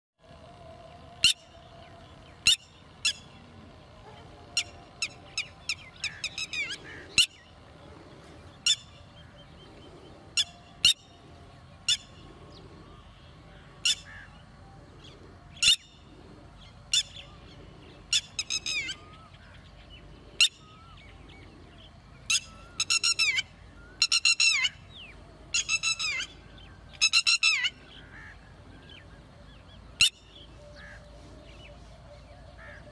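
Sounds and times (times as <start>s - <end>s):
lapwing calling: 0.2s - 32.9s.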